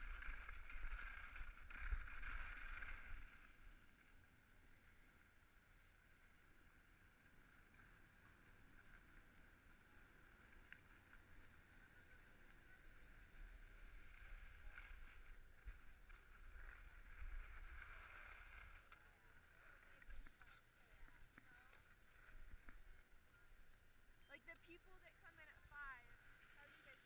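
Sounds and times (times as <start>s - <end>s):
skis sliding over packed snow: 0.0s - 24.0s, 24.9s - 27.0s.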